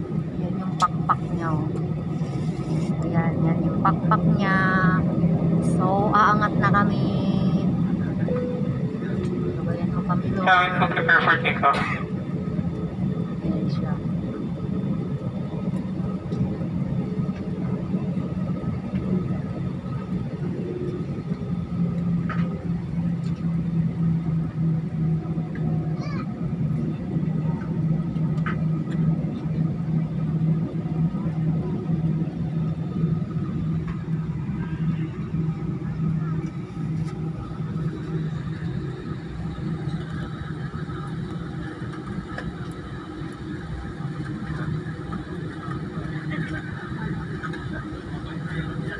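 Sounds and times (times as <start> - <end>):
low hum: 0.0 - 25.8, 26.4 - 48.9
jet engines droning: 0.0 - 48.9.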